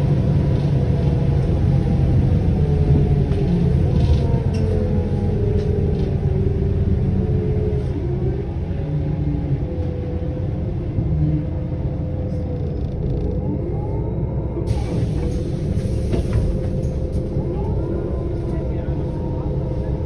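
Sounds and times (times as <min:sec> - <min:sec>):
bus engine rumbling: 0:00.0 - 0:20.0.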